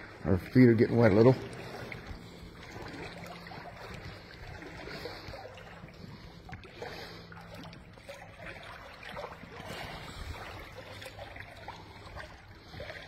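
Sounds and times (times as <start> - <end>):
boots wading through water: 0.0 - 13.0.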